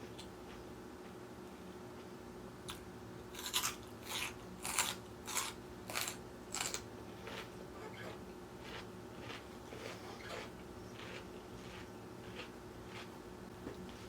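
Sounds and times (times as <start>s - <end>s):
chewing crunchy raw vegetables: 2.7s - 14.0s.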